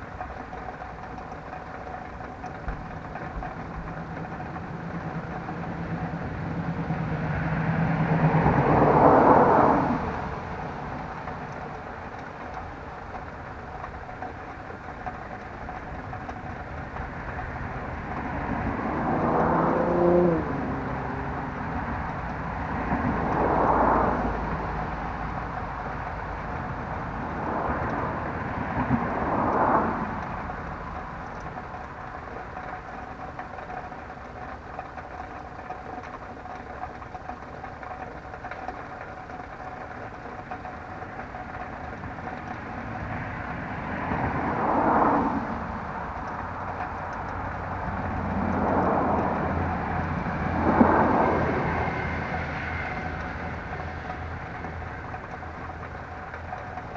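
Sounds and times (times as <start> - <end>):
low rumble of traffic: 0.0 - 56.9
vehicles passing by: 0.0 - 56.9.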